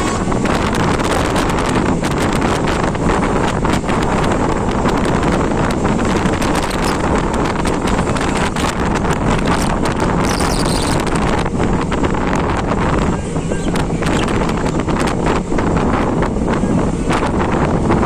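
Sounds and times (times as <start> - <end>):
passenger train running: 0.0 - 18.0
wind buffeting microphone: 0.0 - 18.0.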